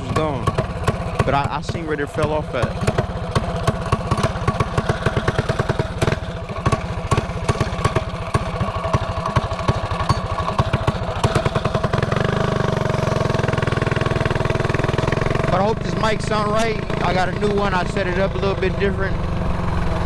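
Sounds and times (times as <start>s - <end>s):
small engine idling unevenly: 0.0s - 20.0s.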